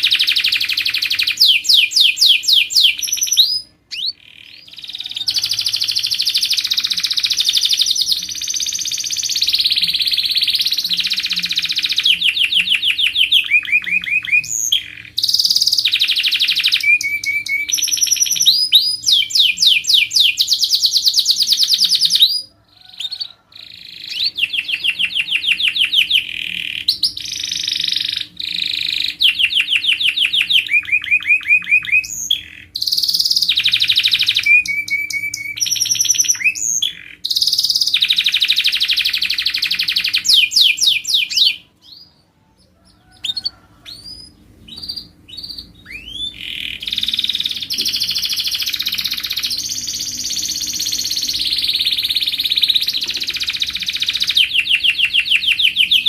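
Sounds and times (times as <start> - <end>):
canary singing trills: 0.0 - 56.0
faint steady hum: 0.0 - 56.0.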